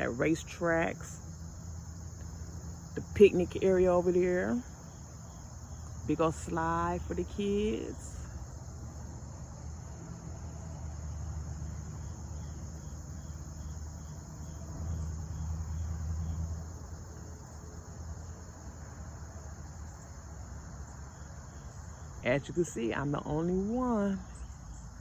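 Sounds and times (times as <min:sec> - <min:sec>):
crickets chirring: 0:00.0 - 0:25.0.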